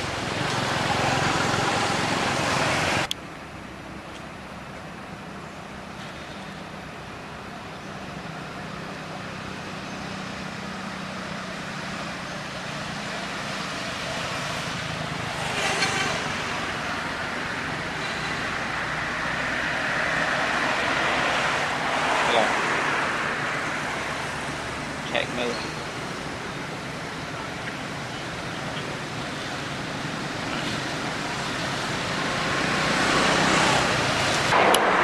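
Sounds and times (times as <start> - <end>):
road traffic engine hum: 0.0 - 35.0
tyre noise from passing vehicles: 0.0 - 35.0.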